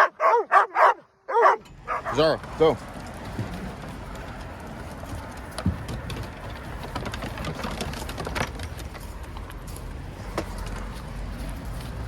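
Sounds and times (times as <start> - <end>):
outdoor background noise: 0.0 - 12.0
dogs' claws clicking and scuffing: 1.4 - 12.0.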